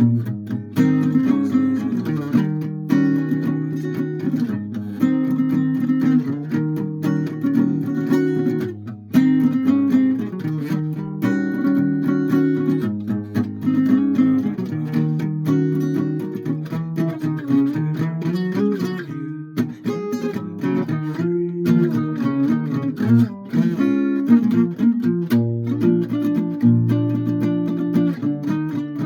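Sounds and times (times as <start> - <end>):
guitar chords strummed: 0.0 - 29.0.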